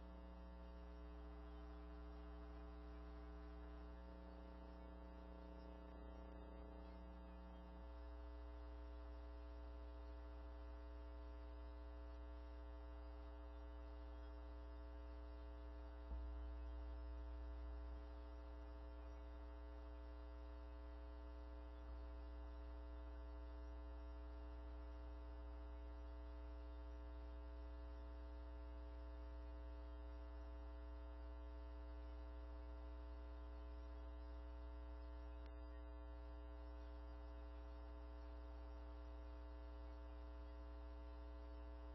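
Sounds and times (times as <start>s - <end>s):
electrical mains hum: 0.0s - 41.9s.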